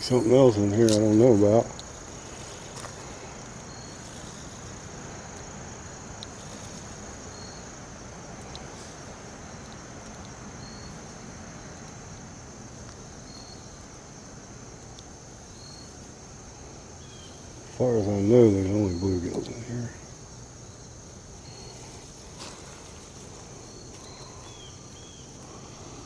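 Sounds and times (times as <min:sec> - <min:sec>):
high-pitched insect drone: 0:00.0 - 0:26.0
soft hiss: 0:00.0 - 0:26.0.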